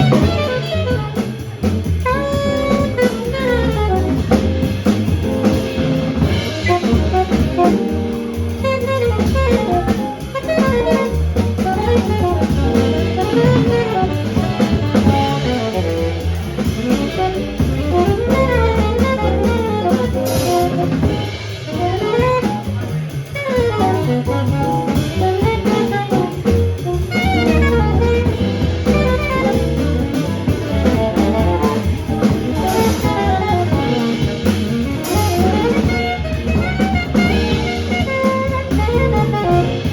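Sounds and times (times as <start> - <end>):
bass: 0.0 - 39.9
drum kit: 0.0 - 39.9
piano: 0.0 - 39.9
saxophone melody: 0.0 - 39.9.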